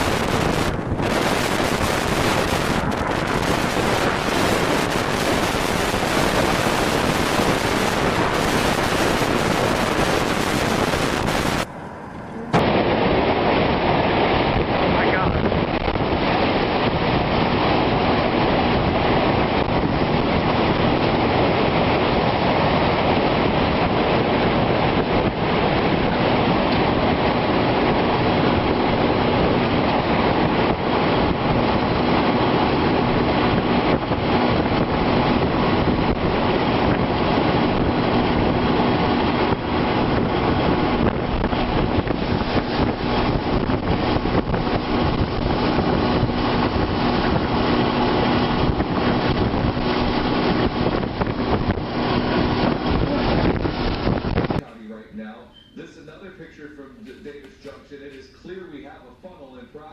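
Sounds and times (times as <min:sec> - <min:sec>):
wind buffeting microphone: 0:00.0 - 0:55.0
faint steady hum: 0:00.0 - 0:59.9.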